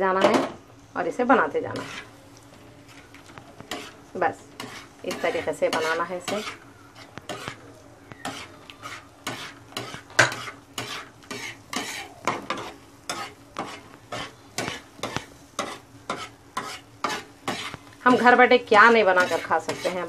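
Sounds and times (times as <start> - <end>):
food sizzling: 0.0 - 20.0
metal spatula scraping griddle: 1.3 - 20.0.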